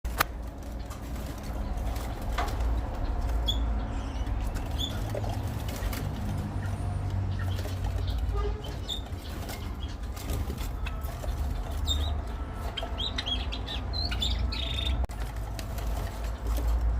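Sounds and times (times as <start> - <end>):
wings fluttering and rustling: 0.1 - 13.6, 14.9 - 16.9
small birds chirping: 0.2 - 16.9.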